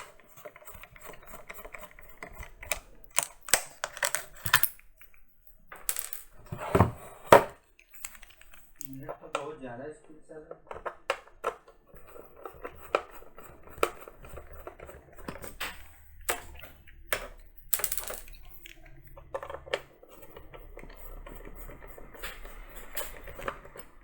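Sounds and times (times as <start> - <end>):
speaker casing clicks and scrapes: 0.0 - 6.5, 7.7 - 24.0.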